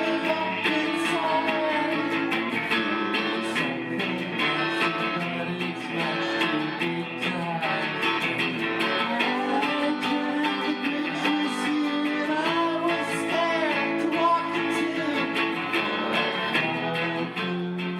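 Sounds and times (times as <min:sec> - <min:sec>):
guitar strumming rock rhythm: 0:00.0 - 0:17.9.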